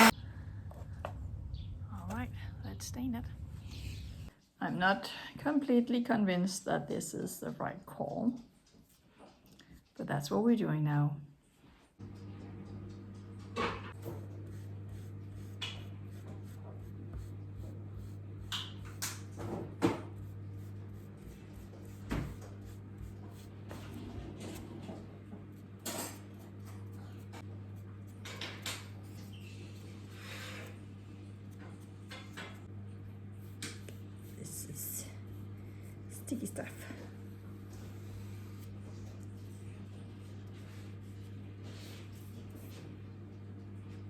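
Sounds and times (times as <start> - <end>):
steady low hum: 0.0 - 4.4, 12.0 - 44.0.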